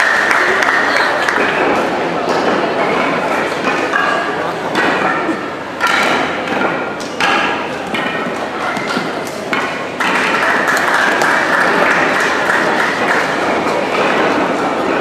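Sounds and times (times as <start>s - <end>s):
sharp knocks: 1.4s - 15.0s.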